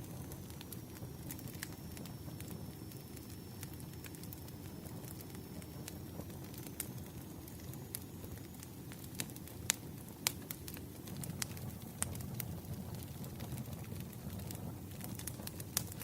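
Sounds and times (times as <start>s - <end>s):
campfire flames rumbling: 0.0s - 16.0s
fire crackles and pops: 0.0s - 16.0s.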